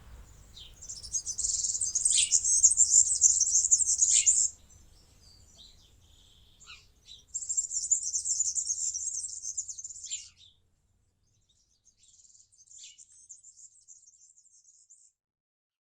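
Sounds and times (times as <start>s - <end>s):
small bird twittering: 0.0s - 10.5s, 12.0s - 15.1s.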